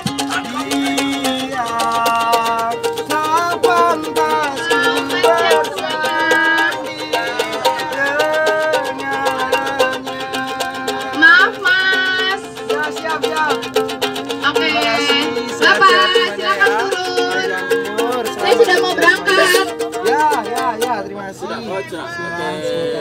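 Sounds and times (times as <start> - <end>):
man singing: 0.0 - 13.8, 14.4 - 23.0
ukulele strumming: 0.0 - 21.8.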